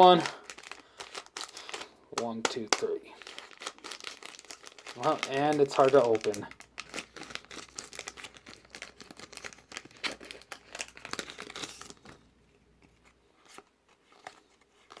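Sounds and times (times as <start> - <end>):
foil wrapper tearing and crinkling: 0.0 - 12.3, 13.5 - 15.0.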